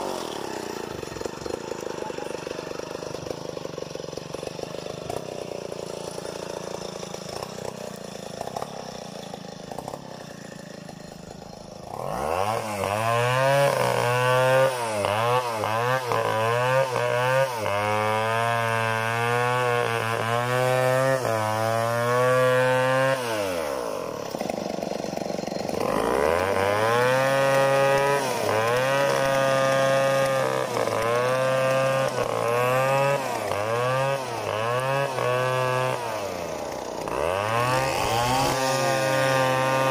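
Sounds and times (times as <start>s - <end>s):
chainsaw revving and cutting log: 0.0s - 39.9s.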